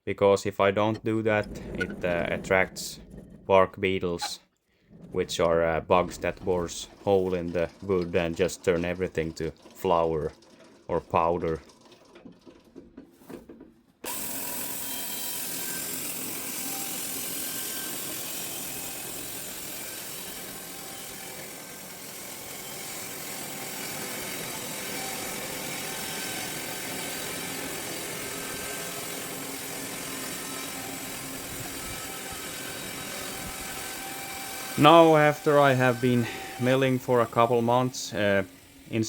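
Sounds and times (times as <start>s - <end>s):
wood-cutting machine running: 0.9s - 12.0s, 14.1s - 39.0s.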